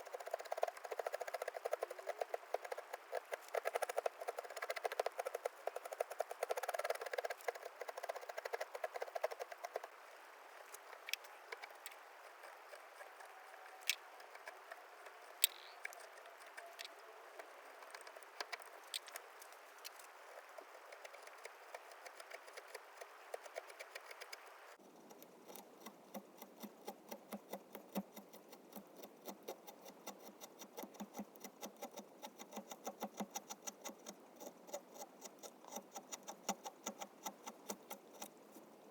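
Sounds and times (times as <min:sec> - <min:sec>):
carving tools cutting wood: 0:00.0 - 0:09.9, 0:11.1 - 0:19.2, 0:19.9 - 0:38.4.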